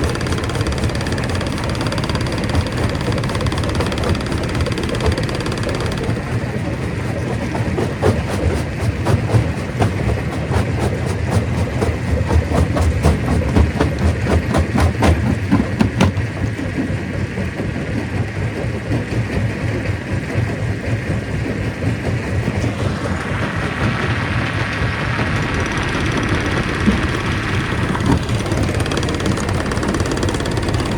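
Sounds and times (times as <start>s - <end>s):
heavy engine drone: 0.0s - 18.9s, 20.7s - 30.9s.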